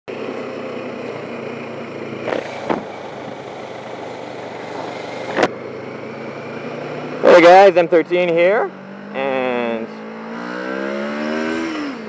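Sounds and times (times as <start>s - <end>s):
motorcycle engine running: 0.1s - 12.0s
road and wind noise: 0.1s - 12.0s.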